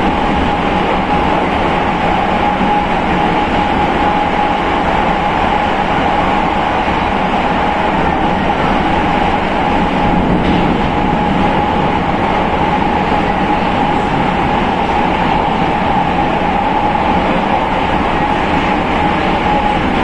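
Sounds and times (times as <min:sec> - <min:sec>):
metro train rumbling on rails: 0:00.0 - 0:20.0.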